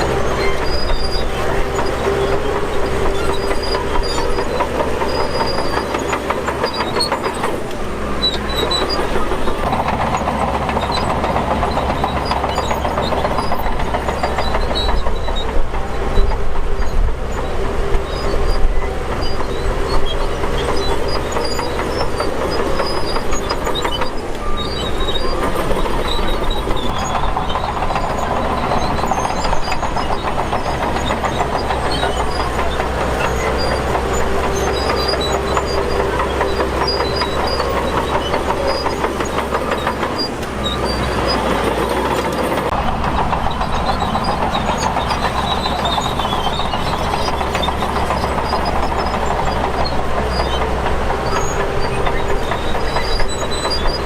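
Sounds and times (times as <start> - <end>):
bulldozer diesel engine running: 0.0 - 54.0
steel tracks clanking: 0.0 - 54.0.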